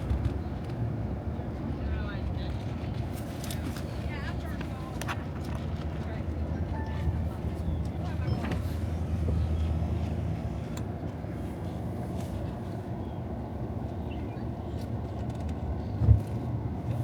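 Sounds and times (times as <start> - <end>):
vehicle driving rumble: 0.0 - 17.0.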